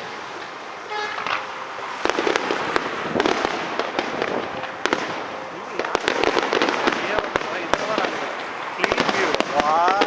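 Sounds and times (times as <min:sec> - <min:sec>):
fireworks bangs: 0:00.0 - 0:10.0
fireworks hissing and crackling: 0:00.0 - 0:10.0.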